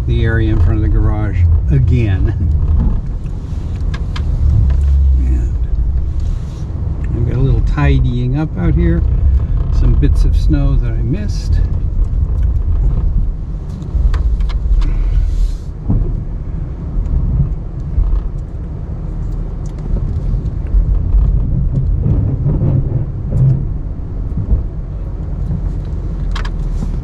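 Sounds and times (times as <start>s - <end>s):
pickup truck engine rumble: 0.0s - 27.0s.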